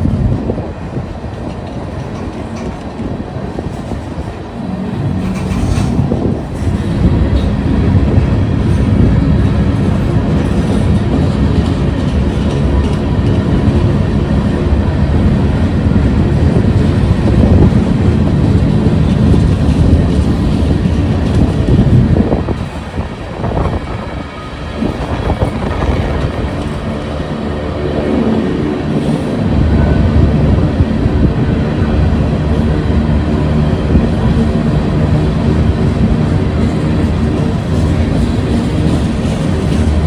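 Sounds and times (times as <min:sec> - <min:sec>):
train cars rolling on rails: 0:00.0 - 0:40.0.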